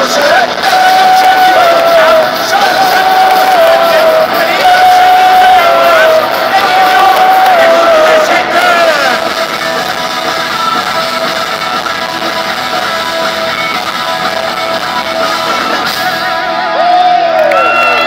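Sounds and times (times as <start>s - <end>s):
electric guitars: 0.0s - 18.0s
live rock band: 0.0s - 18.0s.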